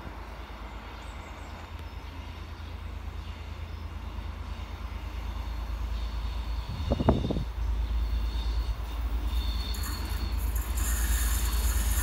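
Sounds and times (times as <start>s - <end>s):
approaching train rumble: 0.0s - 12.0s.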